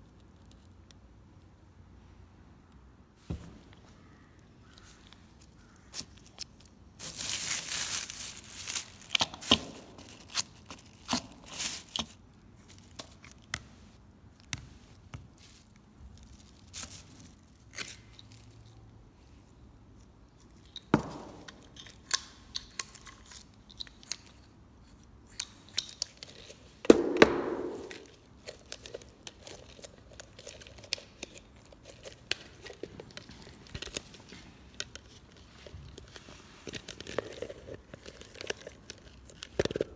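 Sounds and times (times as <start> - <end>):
plastic crinkling and rustling: 4.6 - 39.9.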